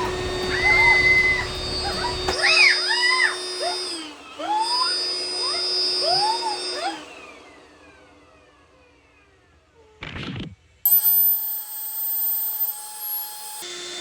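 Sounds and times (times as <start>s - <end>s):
electric air blower whine: 0.0s - 10.0s, 10.9s - 14.0s.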